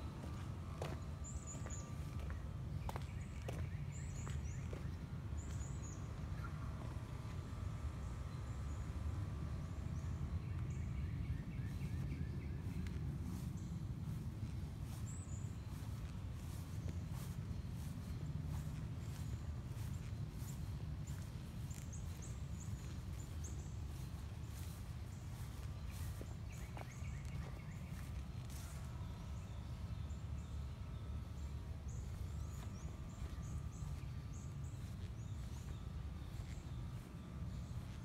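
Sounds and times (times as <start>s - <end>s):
small birds chirping: 0.1s - 38.0s.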